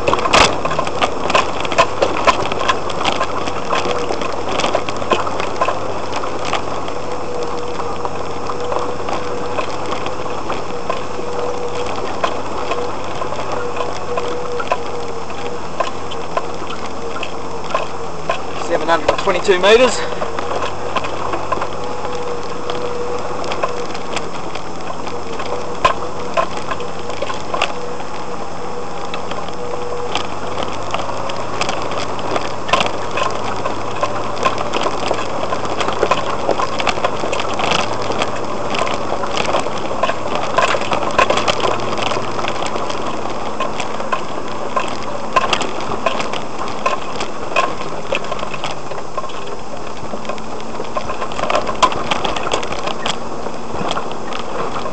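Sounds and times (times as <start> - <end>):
body and contents rattling: 0.0 - 54.9
faint steady whine: 0.0 - 54.9
vehicle engine running: 0.0 - 54.9.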